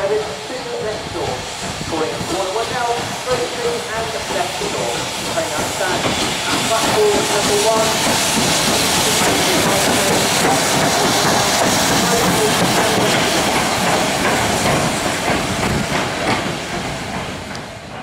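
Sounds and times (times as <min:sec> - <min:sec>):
steam hissing: 0:00.0 - 0:18.0
steam locomotive passing: 0:00.0 - 0:18.0.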